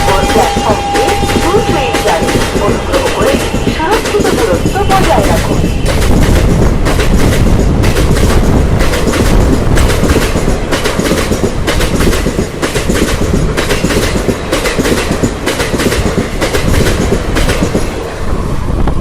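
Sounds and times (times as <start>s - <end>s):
wheels clacking over rail joints: 0.0s - 18.1s
train coaches rumbling: 0.0s - 19.0s.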